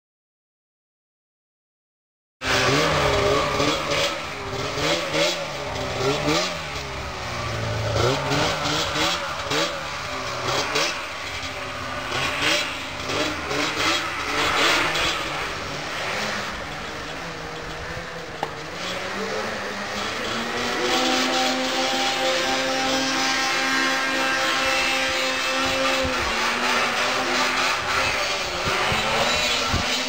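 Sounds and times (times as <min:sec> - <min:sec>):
snowmobile engine revving: 0:02.4 - 0:30.0.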